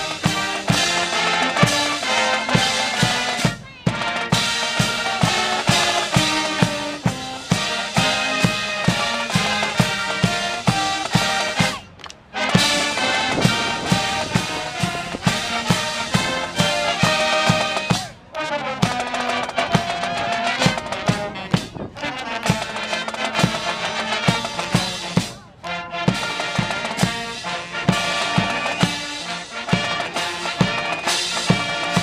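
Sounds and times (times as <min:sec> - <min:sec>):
marching band playing: 0:00.0 - 0:32.0.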